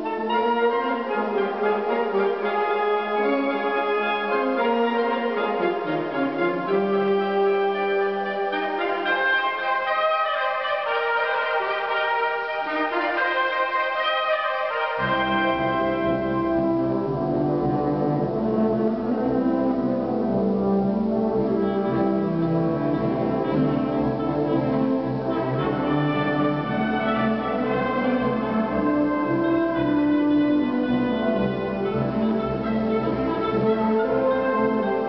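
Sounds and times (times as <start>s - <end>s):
wind band playing: 0.0s - 35.0s.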